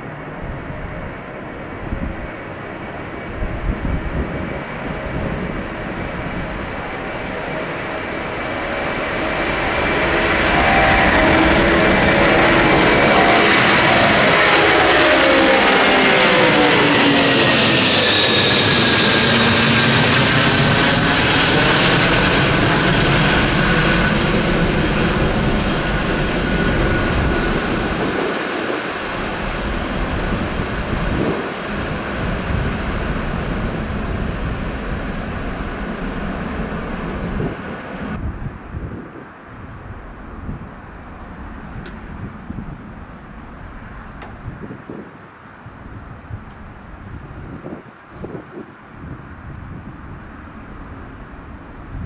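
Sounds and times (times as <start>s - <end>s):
airplane engines passing: 0.0s - 52.0s
high engine whine: 0.0s - 52.0s.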